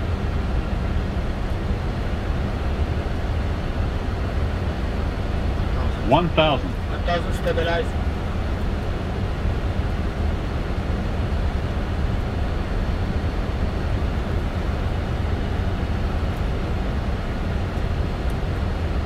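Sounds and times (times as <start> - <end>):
aircraft cockpit rumble and hiss: 0.0 - 19.0.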